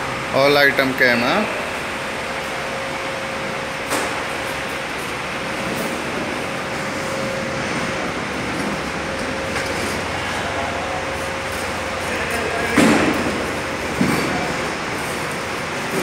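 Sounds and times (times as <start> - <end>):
faint steady whine: 0.0 - 16.0
low hum: 1.2 - 16.0.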